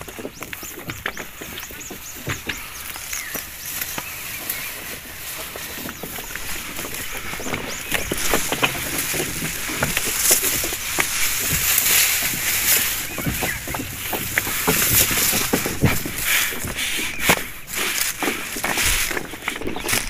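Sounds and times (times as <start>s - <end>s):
leaves and branches rustling: 0.0s - 20.0s.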